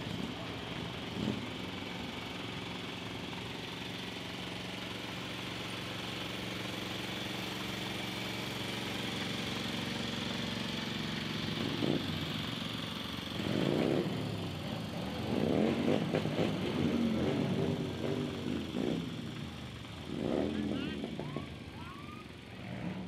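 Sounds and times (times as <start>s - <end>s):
vehicle engine idling and revving: 0.0s - 23.0s.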